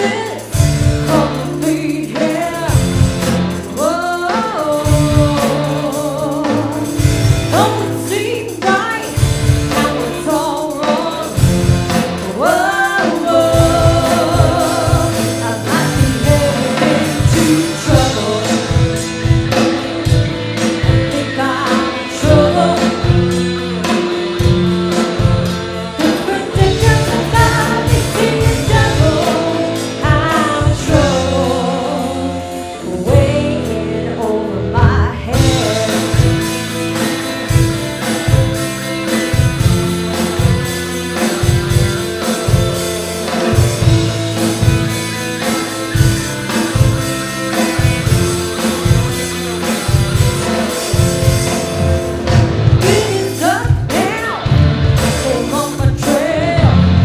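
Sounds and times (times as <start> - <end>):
person singing: 0.0 - 19.6, 20.7 - 25.4, 26.0 - 43.9, 52.8 - 57.0
rock band playing live: 0.0 - 57.0.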